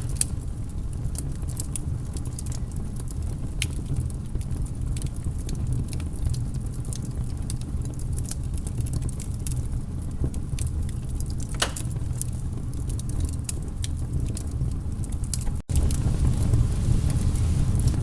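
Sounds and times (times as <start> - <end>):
fire burning rumble: 0.0 - 18.0
fire popping: 0.0 - 18.0.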